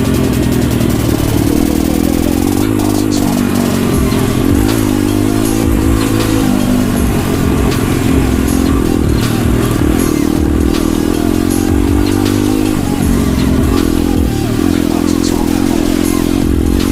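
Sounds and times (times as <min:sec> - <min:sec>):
pit bike engine running: 0:00.0 - 0:16.9.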